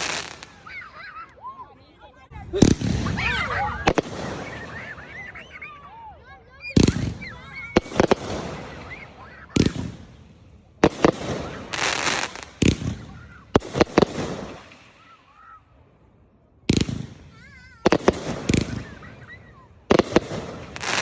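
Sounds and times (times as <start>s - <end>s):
fireworks bangs: 0.0s - 1.1s, 2.3s - 15.7s, 16.6s - 21.0s
fireworks crackling: 0.0s - 1.3s, 2.3s - 15.8s, 16.7s - 21.0s.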